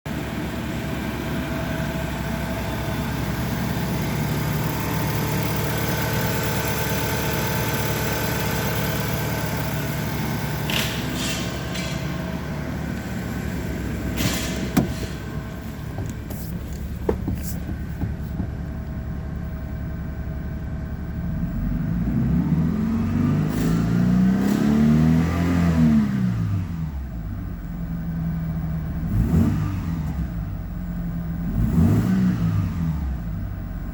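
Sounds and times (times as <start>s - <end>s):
petrol engine idling and revving: 0.1s - 33.9s.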